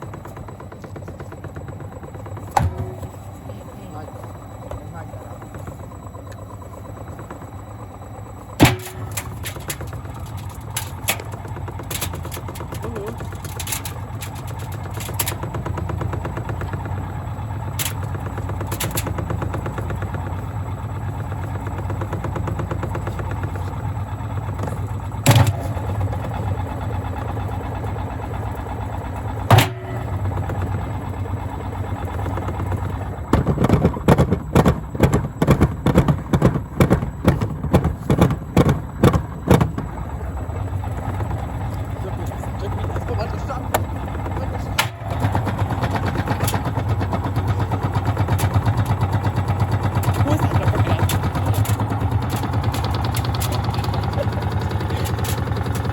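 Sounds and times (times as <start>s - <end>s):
washing machine running: 0.0s - 55.9s.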